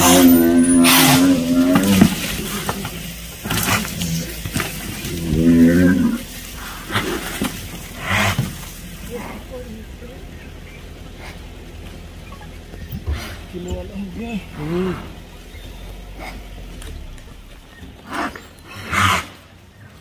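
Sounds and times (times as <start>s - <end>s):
scuffling crackles: 0.0s - 18.9s
bison bellowing: 0.0s - 19.6s.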